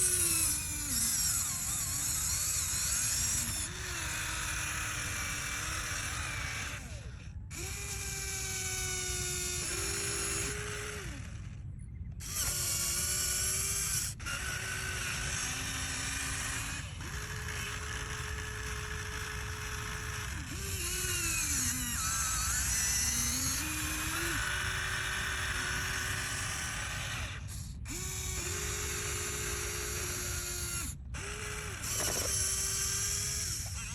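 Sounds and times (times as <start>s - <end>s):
small electric motors whirring: 0.0s - 33.9s.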